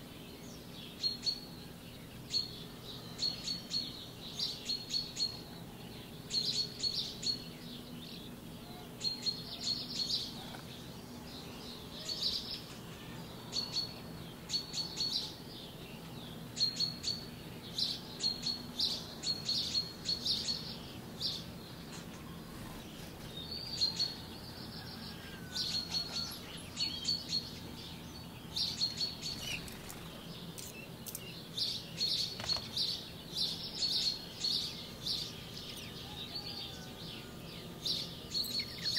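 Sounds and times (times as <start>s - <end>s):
faint low hum: 0.0s - 38.9s
small birds chirping: 0.0s - 38.9s.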